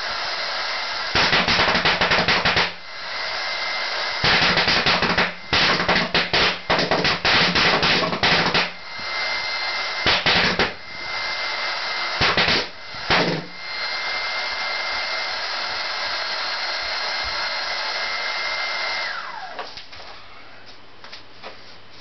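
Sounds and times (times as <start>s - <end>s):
air supply hiss and whine: 0.0s - 22.0s.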